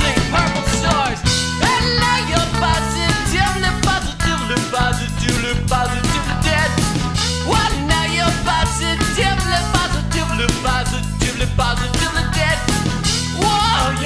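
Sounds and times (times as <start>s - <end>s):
steady drum beat: 0.0s - 14.0s
upbeat song with singing: 0.0s - 14.0s.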